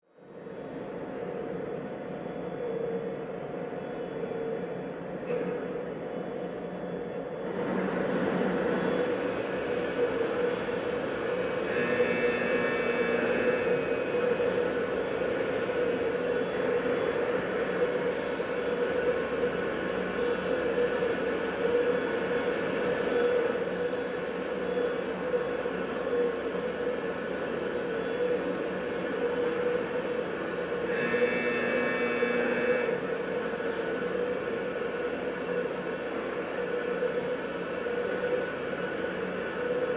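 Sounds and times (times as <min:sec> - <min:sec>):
industrial drone: 0:07.5 - 0:39.9.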